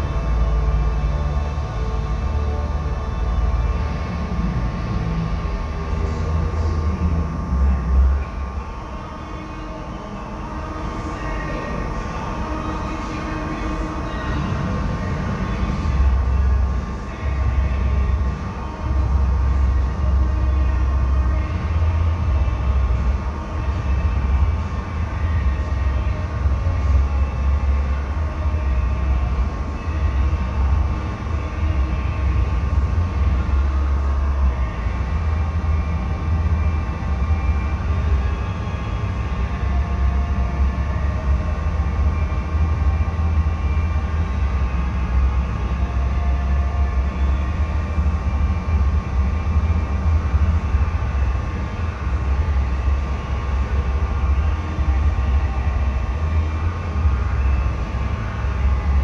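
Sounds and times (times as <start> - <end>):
faint steady hum: 0.0 - 59.0
ventilation fans rumbling: 0.0 - 59.0.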